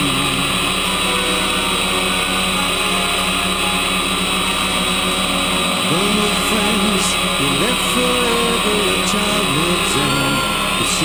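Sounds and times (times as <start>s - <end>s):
drone propellers whirring: 0.0s - 11.0s.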